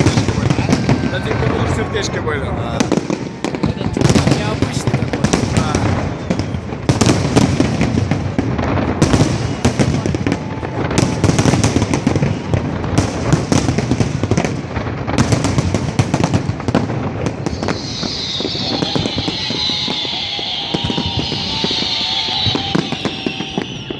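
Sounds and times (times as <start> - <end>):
fireworks bangs and crackling pops: 0.0 - 23.9.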